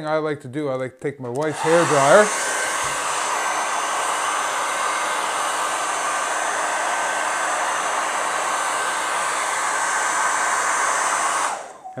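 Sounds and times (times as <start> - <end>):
hair dryer blowing air: 1.4 - 12.0.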